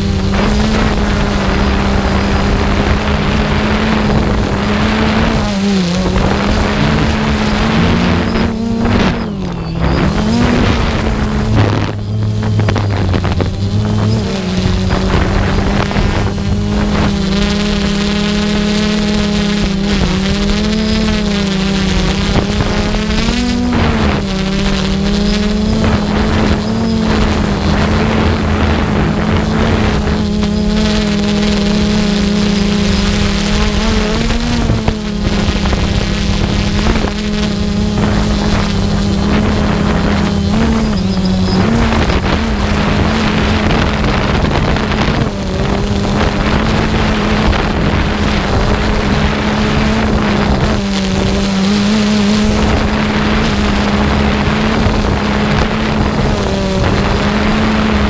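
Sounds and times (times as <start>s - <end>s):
rushing wind noise: 0.0s - 58.0s
small aircraft motor hum: 0.0s - 58.0s.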